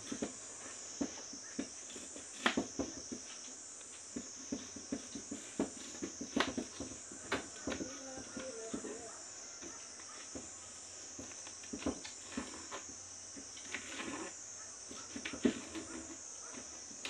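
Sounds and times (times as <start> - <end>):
high-pitched hiss: 0.0 - 17.0.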